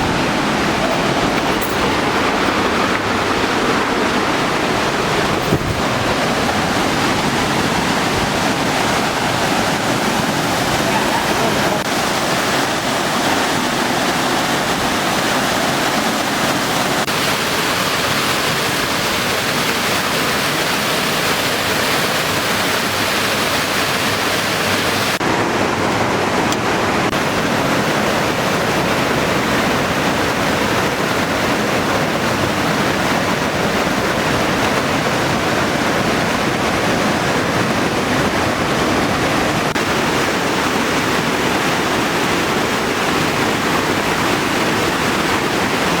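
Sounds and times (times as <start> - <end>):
river water rushing over boulders: 0.0 - 46.0.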